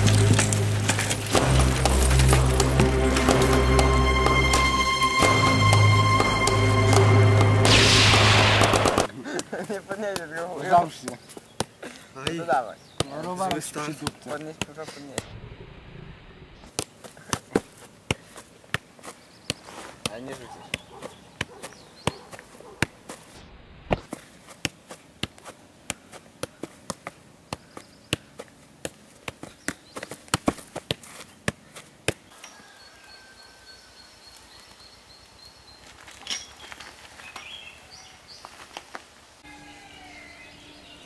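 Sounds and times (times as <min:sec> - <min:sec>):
faint outdoor noise: 0:00.0 - 0:41.0.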